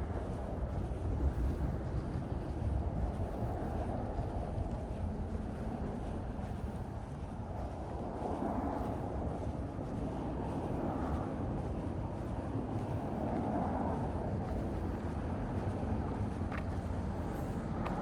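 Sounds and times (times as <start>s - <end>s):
street ambience rumble: 0.0s - 18.0s.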